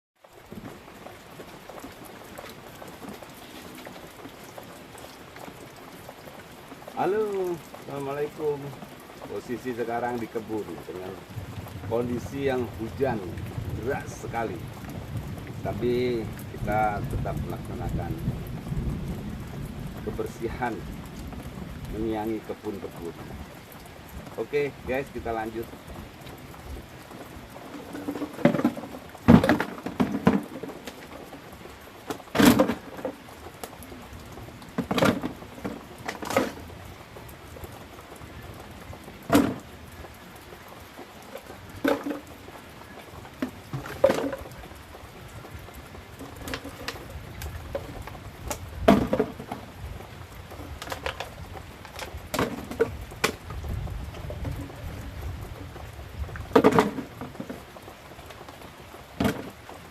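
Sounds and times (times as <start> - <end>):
heavy rain pattering: 0.2 - 59.9.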